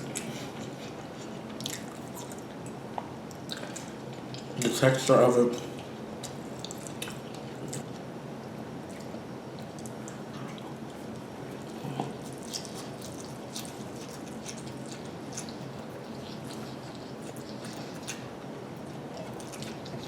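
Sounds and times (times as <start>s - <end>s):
wet chewing and mouth sounds: 0.0s - 4.8s, 5.7s - 8.1s, 8.8s - 20.0s
steady background hiss: 0.0s - 20.0s.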